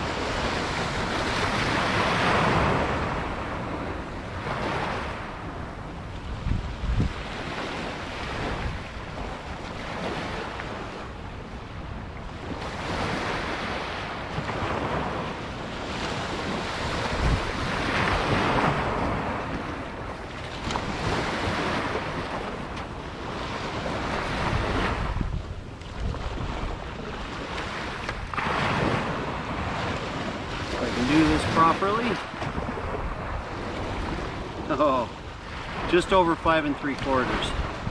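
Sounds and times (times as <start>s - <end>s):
small waves washing on beach: 0.0s - 37.9s
wind on microphone: 0.0s - 37.9s.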